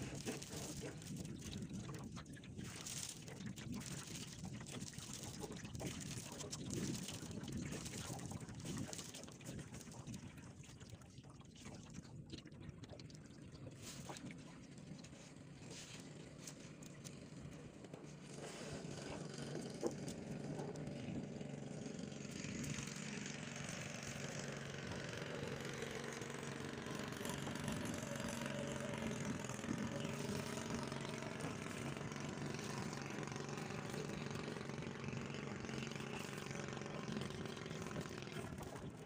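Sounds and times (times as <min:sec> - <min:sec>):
small engine running: 0:00.0 - 0:10.0, 0:13.9 - 0:39.0.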